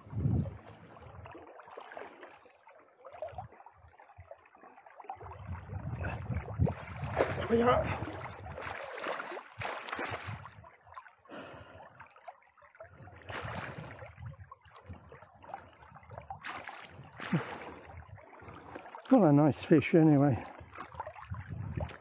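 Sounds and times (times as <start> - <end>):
river water splashing and gurgling: 0.0 - 22.0.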